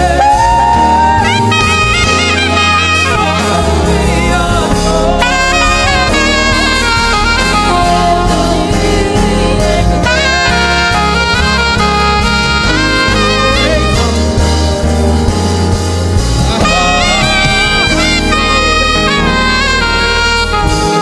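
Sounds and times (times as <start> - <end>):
gospel band playing: 0.0 - 21.0
saxophone melody: 0.0 - 21.0.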